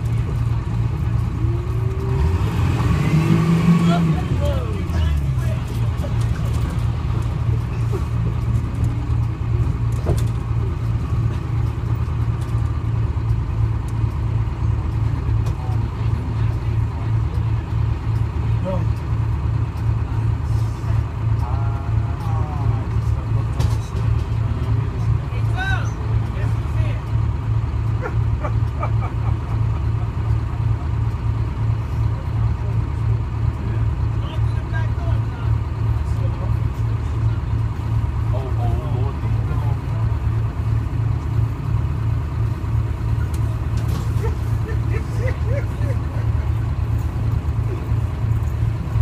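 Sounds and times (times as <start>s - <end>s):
diesel bus engine running: 0.0s - 49.0s.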